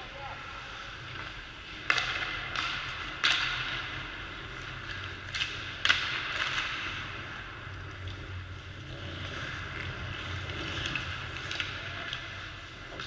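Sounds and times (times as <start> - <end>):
hockey sticks cracking pucks: 1.0 - 13.0.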